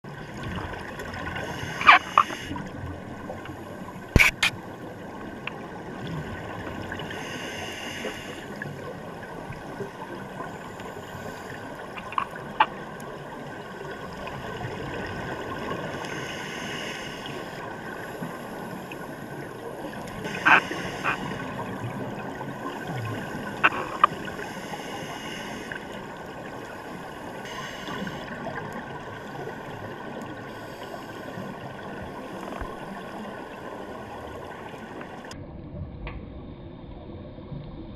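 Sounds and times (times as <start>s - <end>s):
muffled underwater background: 0.2s - 5.6s, 6.2s - 35.3s.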